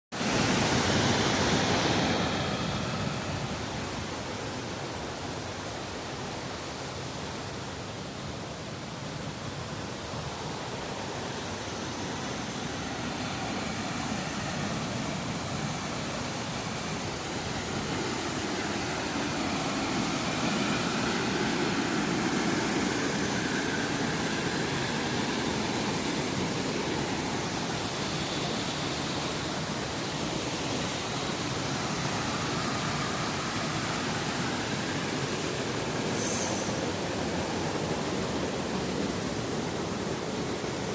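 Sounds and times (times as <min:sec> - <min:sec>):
waterfall rushing: 0:00.2 - 0:07.6, 0:09.6 - 0:40.9.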